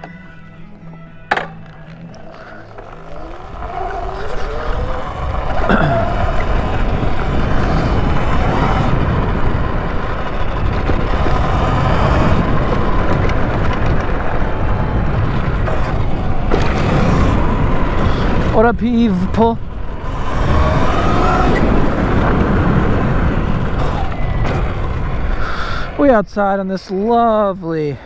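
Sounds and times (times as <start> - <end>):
electric dirt bike motor whine: 0.0 - 25.9
tyre noise on a path: 0.0 - 27.1
wind buffeting the microphone: 2.6 - 28.0.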